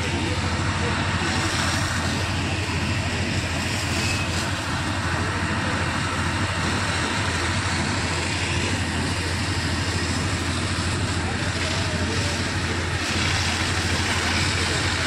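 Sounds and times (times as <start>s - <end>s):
pump machine roar: 0.0s - 15.0s.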